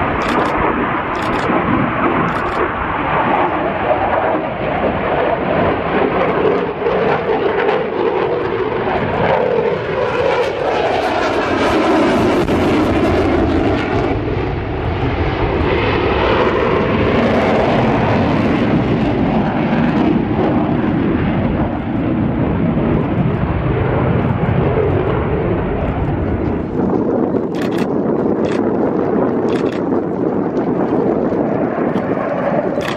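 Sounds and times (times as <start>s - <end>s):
airplane engine flying past: 0.0s - 32.9s.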